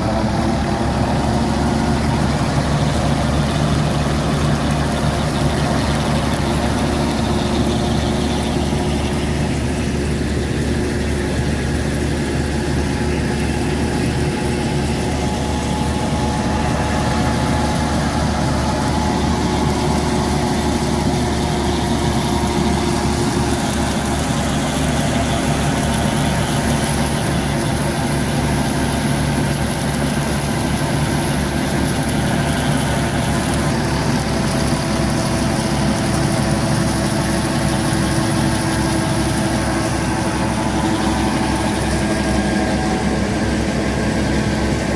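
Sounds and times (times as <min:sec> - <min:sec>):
tractor engine and reaper drone: 0:00.0 - 0:44.9.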